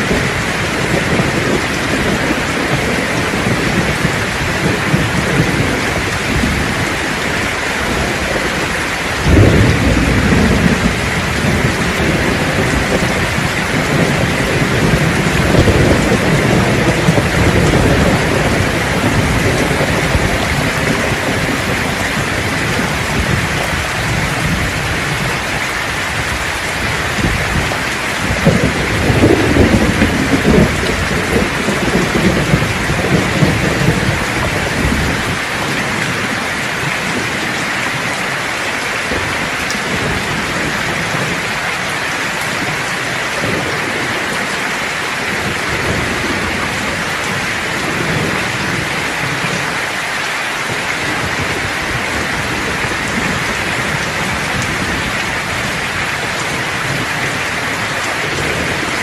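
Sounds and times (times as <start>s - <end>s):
thunder rumbling: 0.0s - 50.0s, 50.6s - 59.0s
heavy rain hissing: 0.0s - 59.0s.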